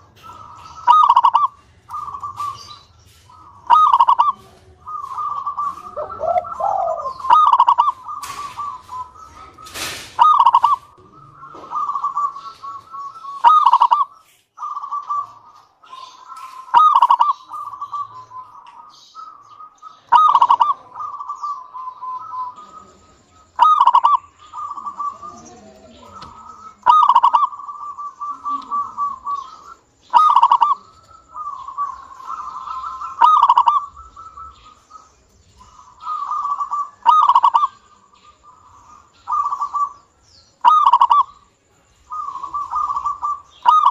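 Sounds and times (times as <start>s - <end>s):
dove cooing trill: 0.0s - 43.9s.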